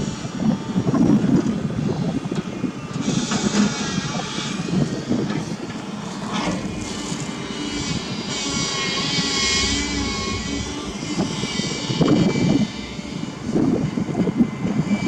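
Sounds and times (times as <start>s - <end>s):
heavy diesel engines running: 0.0s - 15.0s
high machine whine: 0.0s - 15.0s.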